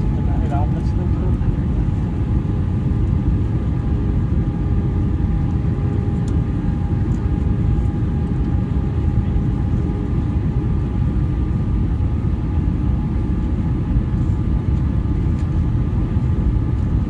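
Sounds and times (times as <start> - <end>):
airliner cabin roar: 0.0 - 17.0
faint engine whine: 0.0 - 17.0.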